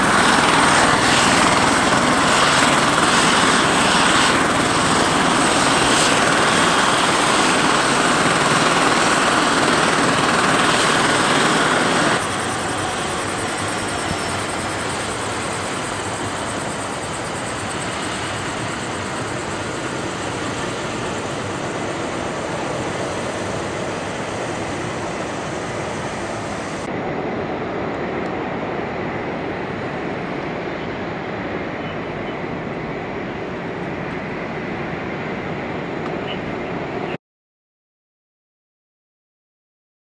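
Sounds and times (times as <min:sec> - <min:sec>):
helicopter running: 0:00.0 - 0:37.1.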